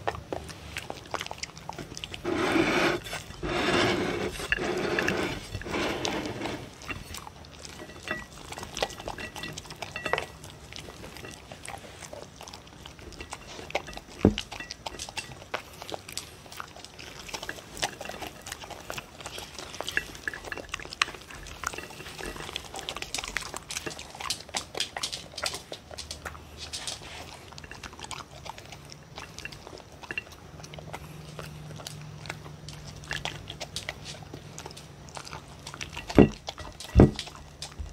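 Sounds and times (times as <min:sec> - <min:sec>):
dogs crunching dry kibble: 0:00.0 - 0:37.9.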